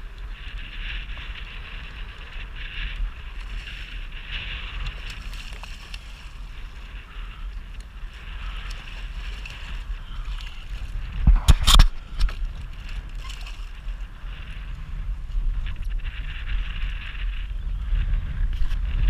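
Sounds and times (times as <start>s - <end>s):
jet ski engine rumble: 0.0s - 19.0s
wind on microphone: 0.0s - 19.0s.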